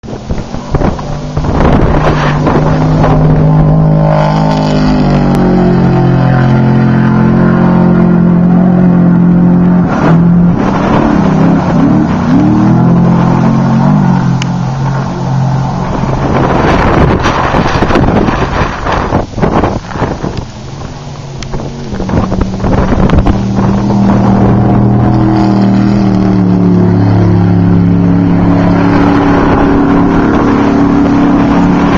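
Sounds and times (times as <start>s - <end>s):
racing engine at full throttle: 0.0s - 31.9s.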